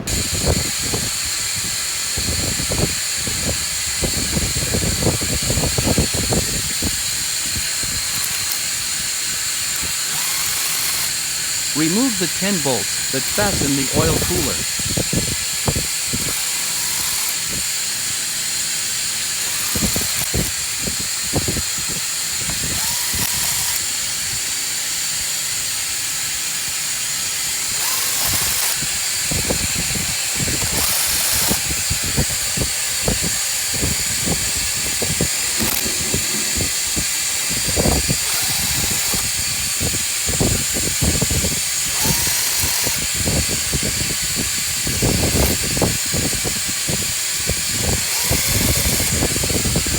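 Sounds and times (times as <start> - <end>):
power driver whirring: 0.0 - 49.9.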